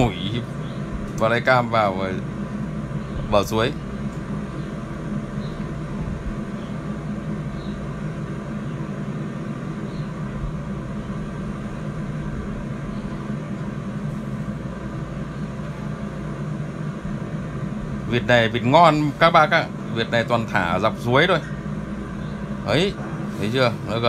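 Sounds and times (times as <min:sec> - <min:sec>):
drone propellers humming: 0:00.0 - 0:24.0.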